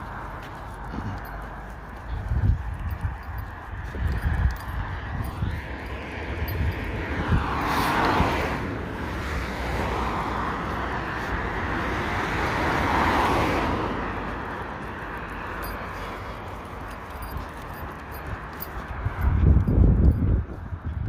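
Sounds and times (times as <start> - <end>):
vehicles passing: 0.0 - 21.0
wind buffeting microphone: 0.0 - 21.0.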